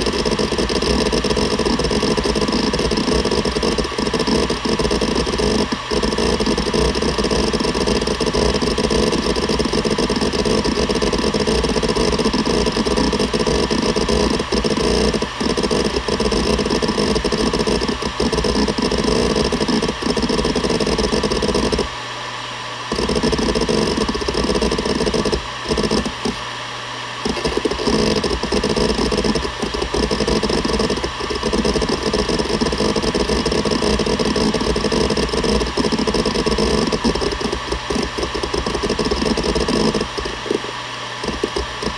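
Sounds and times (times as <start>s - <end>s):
hard drive head chattering: 0.0s - 22.0s, 22.9s - 26.6s, 27.2s - 41.9s
hard drive spindle hum: 0.0s - 41.9s.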